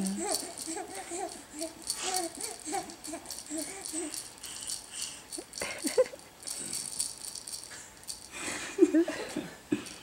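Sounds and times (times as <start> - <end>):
toy rattle shaken: 0.0 - 8.4.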